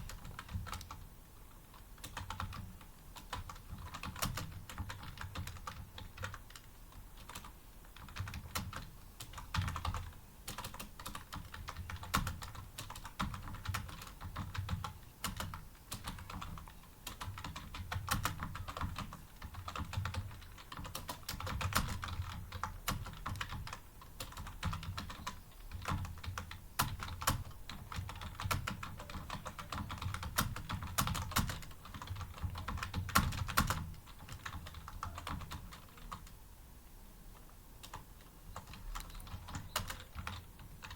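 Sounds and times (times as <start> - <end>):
fast typing on computer keyboard: 0.0 - 1.1, 1.7 - 36.4, 37.8 - 40.9.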